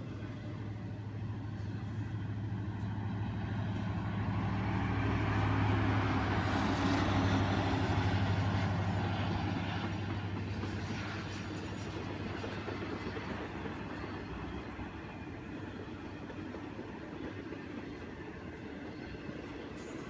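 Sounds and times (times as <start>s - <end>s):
diesel freight train passing: 0.0s - 20.0s.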